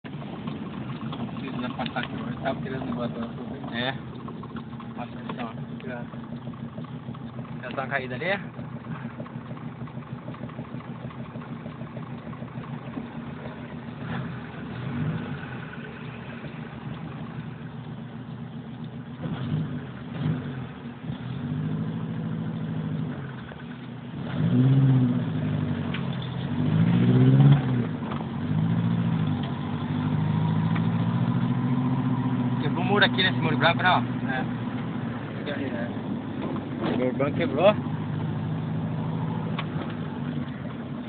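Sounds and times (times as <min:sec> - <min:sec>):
car engine hum: 0:00.0 - 0:41.0.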